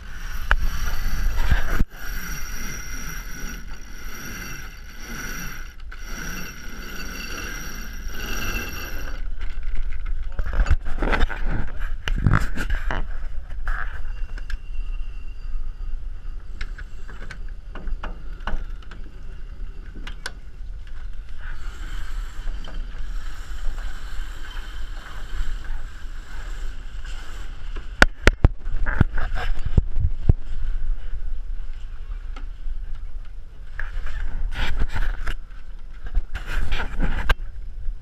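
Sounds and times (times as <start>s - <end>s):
wind: 0.0s - 38.0s.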